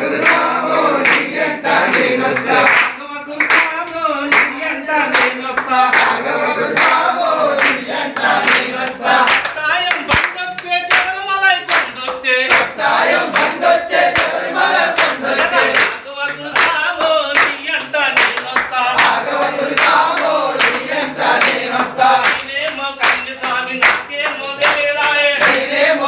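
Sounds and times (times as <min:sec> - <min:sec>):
men singing together: 0:00.0 - 0:26.0
hand claps in time: 0:00.1 - 0:26.0.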